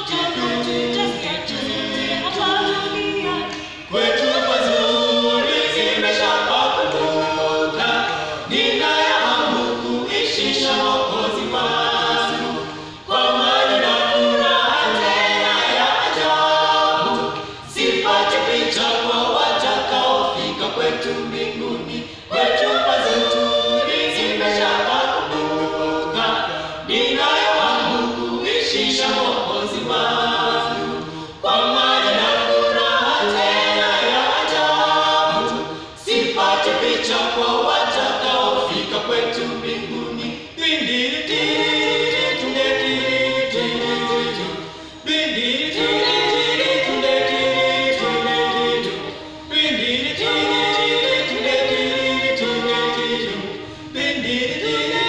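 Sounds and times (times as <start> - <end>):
group singing a cappella: 0.0 - 55.0.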